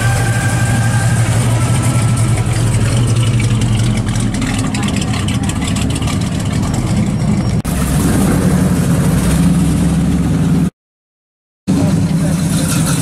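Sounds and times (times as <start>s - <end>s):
car engines driving past: 0.0s - 10.7s.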